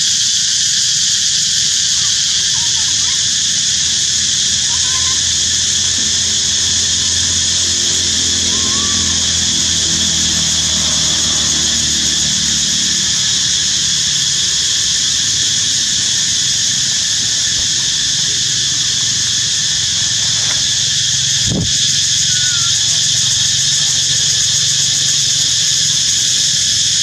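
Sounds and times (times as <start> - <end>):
insect chorus drone: 0.0 - 27.0
low engine hum: 3.2 - 26.8.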